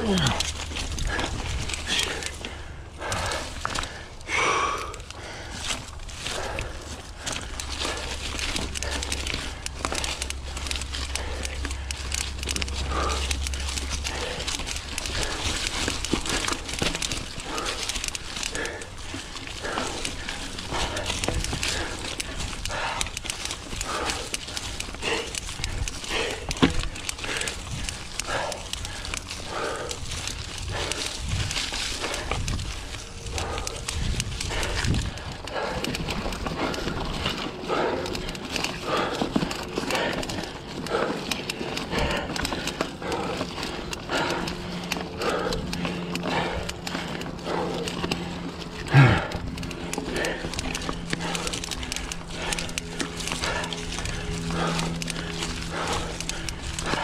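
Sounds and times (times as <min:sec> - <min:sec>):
bike tyres rolling over dirt and leaves: 0:00.0 - 0:57.0
rider breathing hard: 0:00.0 - 0:57.0.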